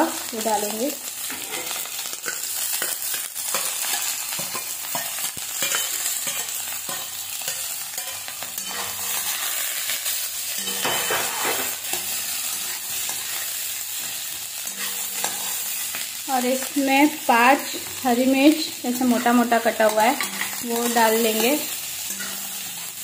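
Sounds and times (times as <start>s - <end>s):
onions sizzling in oil: 0.0s - 23.0s
spatula stirring: 1.3s - 16.2s, 19.0s - 23.0s.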